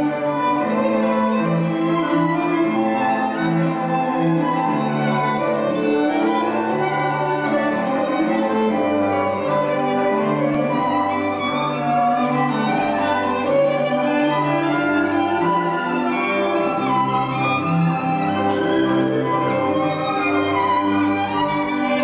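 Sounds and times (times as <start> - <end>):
orchestral string music: 0.0 - 22.0.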